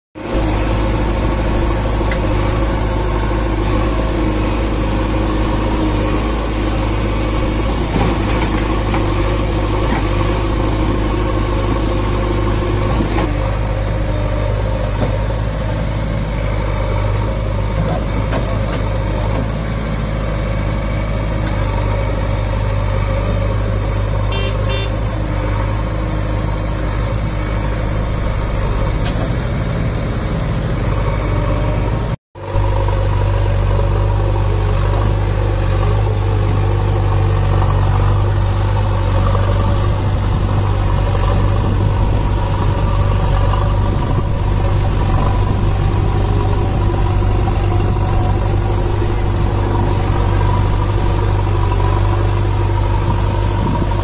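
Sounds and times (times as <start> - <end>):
diesel engine running: 0.2 - 54.0.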